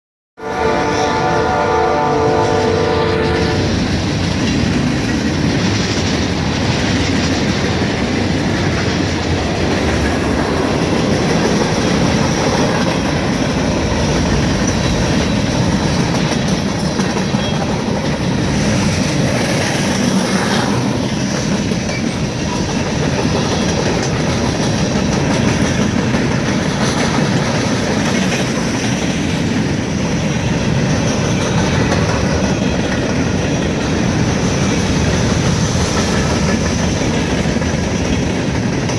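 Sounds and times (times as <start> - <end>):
freight train wheels clacking: 0.6 - 38.9.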